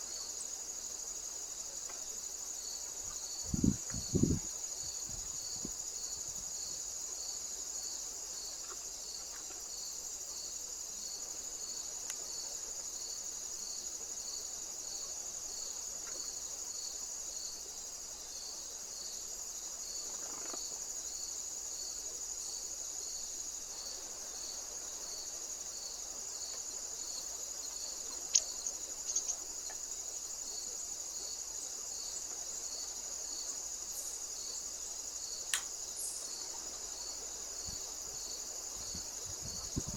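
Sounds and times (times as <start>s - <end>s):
crickets trilling: 0.0s - 39.9s
insect chirping: 0.0s - 39.9s.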